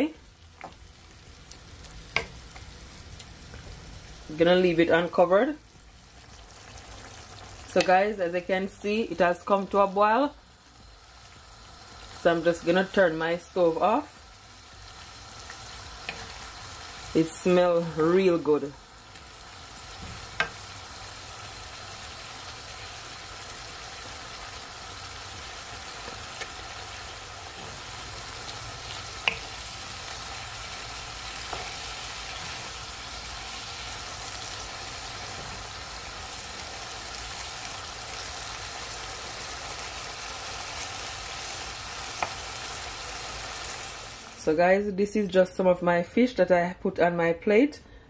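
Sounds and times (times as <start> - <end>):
vegetables sizzling in vinegar: 0.0 - 45.6.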